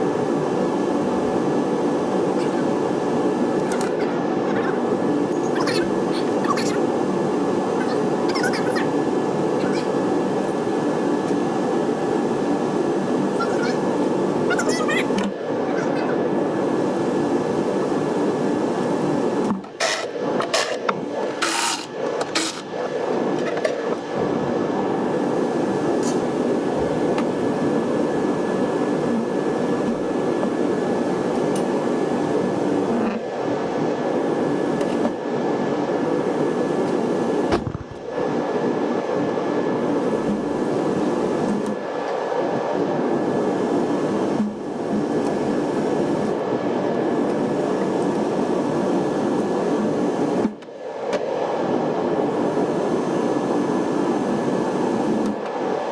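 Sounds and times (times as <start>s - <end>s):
machine whirring: 0.0s - 51.9s.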